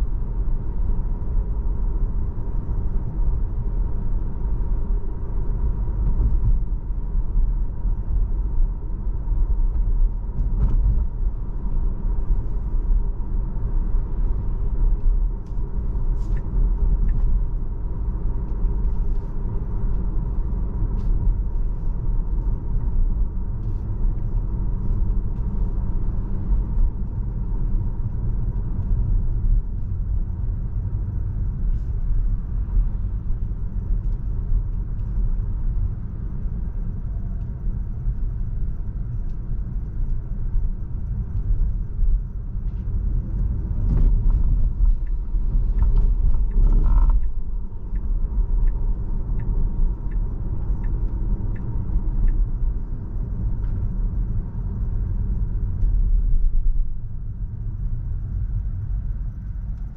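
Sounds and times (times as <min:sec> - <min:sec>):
road and tyre rumble: 0:00.0 - 0:59.9.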